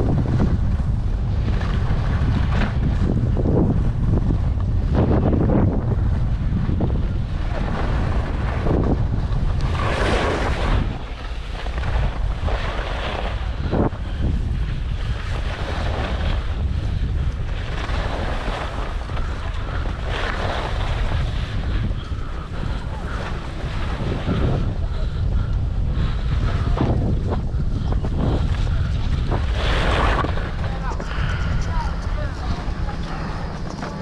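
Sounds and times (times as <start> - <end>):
wind buffeting microphone: 0.0 - 34.0
skis scraping snow: 0.3 - 5.3, 6.1 - 25.3, 26.0 - 34.0.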